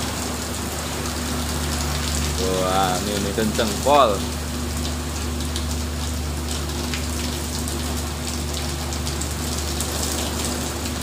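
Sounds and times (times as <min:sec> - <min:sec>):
heavy rain pouring: 0:00.0 - 0:11.0
low steady hum: 0:00.0 - 0:11.0
rain drops ticking: 0:00.0 - 0:11.0.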